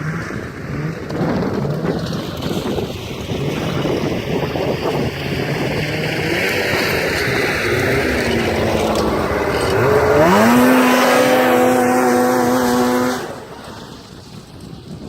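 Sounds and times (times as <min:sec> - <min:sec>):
snowmobile engine revving: 0:00.0 - 0:14.6.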